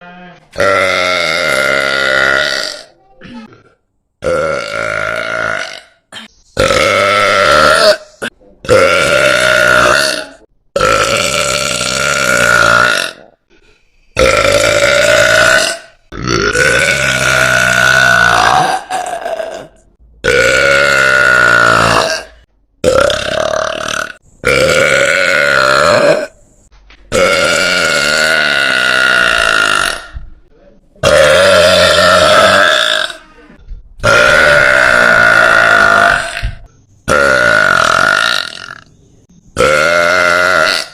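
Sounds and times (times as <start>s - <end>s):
woman burping loudly: 0.0s - 13.6s, 14.2s - 26.4s, 27.1s - 30.2s, 31.0s - 38.9s, 39.6s - 40.9s.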